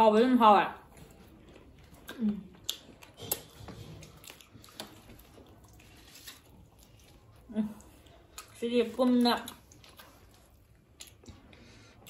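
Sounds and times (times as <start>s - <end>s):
wet chewing mouth clicks: 1.1s - 8.6s, 9.3s - 12.0s.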